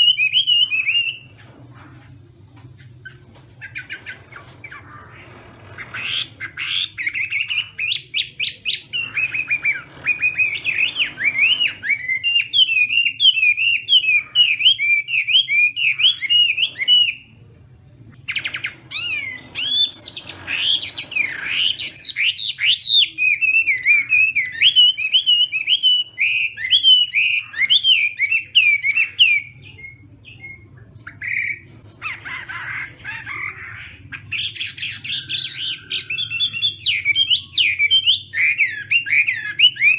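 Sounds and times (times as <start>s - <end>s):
bird whistling song: 0.0s - 2.0s, 2.6s - 17.4s, 18.2s - 39.9s.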